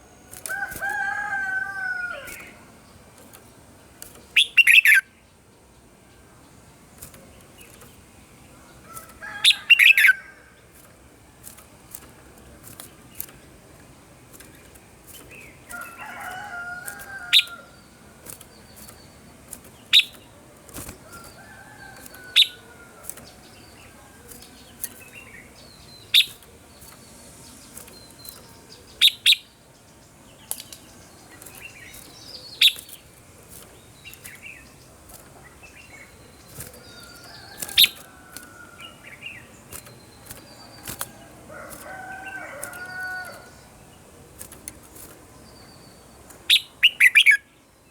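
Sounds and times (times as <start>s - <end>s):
bird singing sharp phrases: 0.0s - 10.8s, 12.7s - 47.9s
soft bird chirps and warbles: 0.0s - 47.9s.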